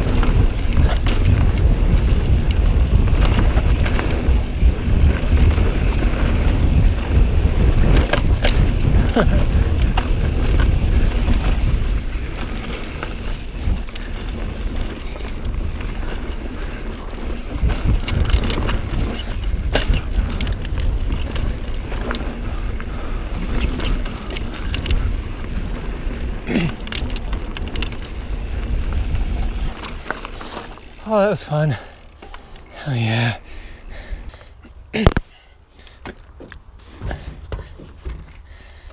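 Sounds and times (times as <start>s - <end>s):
wind buffeting microphone: 0.0s - 32.3s
bike tyres and frame clattering: 0.0s - 38.9s.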